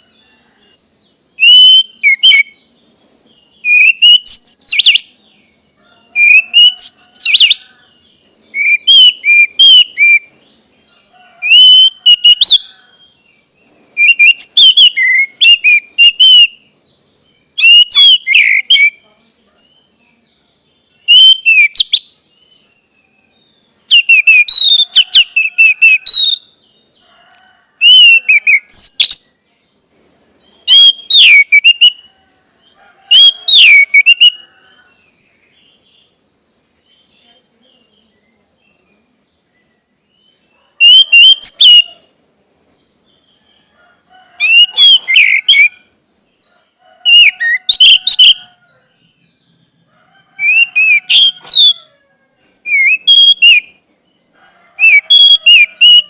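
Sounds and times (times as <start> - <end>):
faint high hiss: 0.0 - 40.8, 41.8 - 47.0
bird singing whistled notes: 1.4 - 26.8, 27.8 - 29.6, 30.4 - 36.1, 36.8 - 42.1, 44.4 - 45.9, 47.0 - 49.8, 50.4 - 51.8, 52.6 - 53.8, 54.8 - 56.0.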